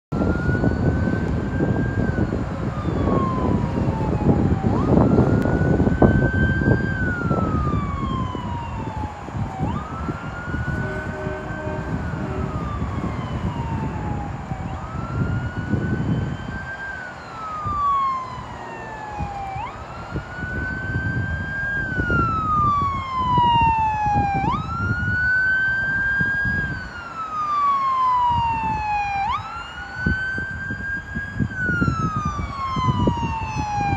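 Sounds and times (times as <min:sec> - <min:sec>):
ambulance siren wailing: 0:00.1 - 0:33.9.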